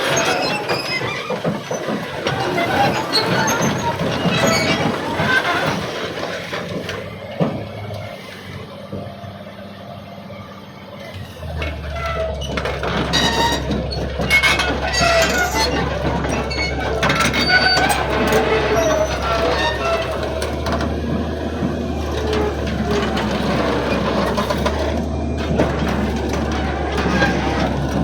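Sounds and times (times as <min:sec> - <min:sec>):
heavy machinery clatter: 0:00.0 - 0:09.7, 0:10.8 - 0:28.0.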